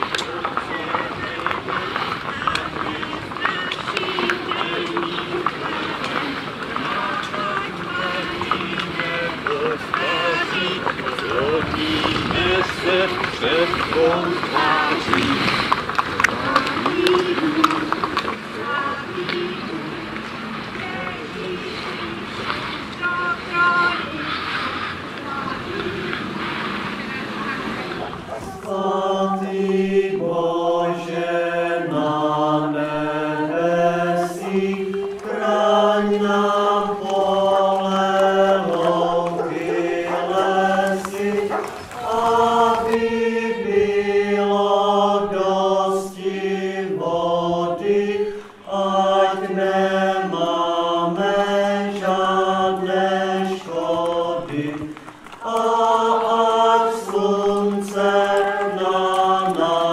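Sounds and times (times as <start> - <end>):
group singing with accompaniment: 0.0 - 23.4, 25.4 - 59.9.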